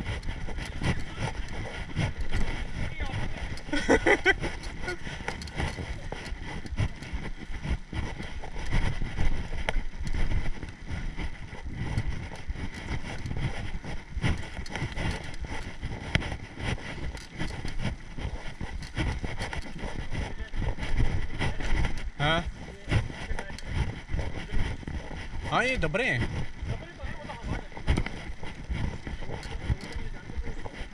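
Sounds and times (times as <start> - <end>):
bike knocking and rattling: 0.0 - 30.9
wind buffeting microphone: 0.0 - 30.9.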